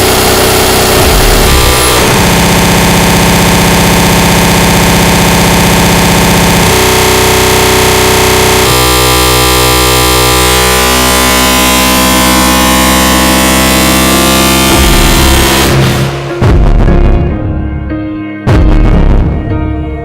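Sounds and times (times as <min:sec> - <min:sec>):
held drone tones: 0:00.0 - 0:17.5
distorted electronic noise: 0:00.0 - 0:17.6, 0:18.5 - 0:19.4.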